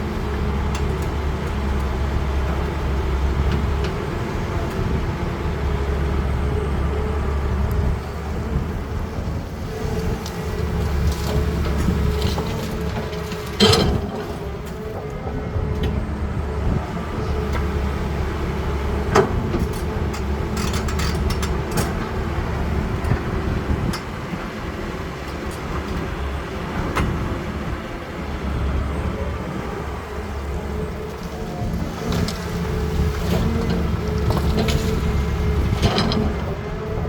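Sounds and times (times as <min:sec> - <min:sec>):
excavator diesel engine rumbling: 0:00.0 - 0:37.0.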